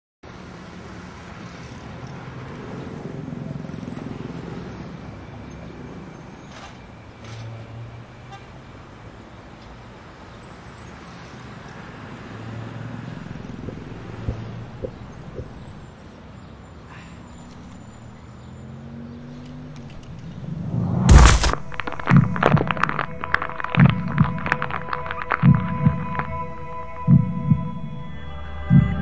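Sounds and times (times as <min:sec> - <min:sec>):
rumble of passing cars and motorbikes: 0:00.2 - 0:29.0.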